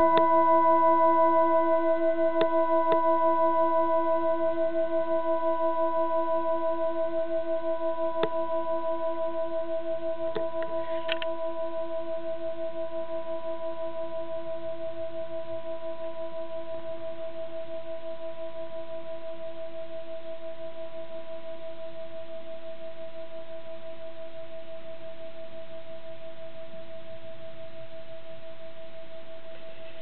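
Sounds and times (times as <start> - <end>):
pulsing ringing tone: 0.0 - 30.0.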